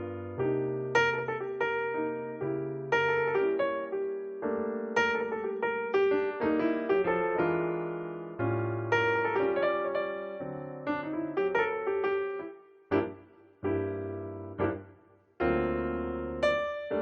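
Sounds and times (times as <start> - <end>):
solo piano playing slow chords: 0.0 - 17.0.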